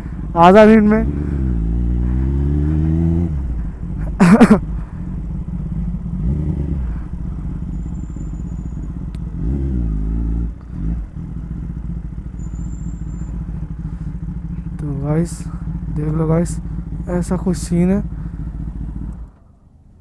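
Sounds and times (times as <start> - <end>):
motorcycle engine revving: 0.0 - 19.5.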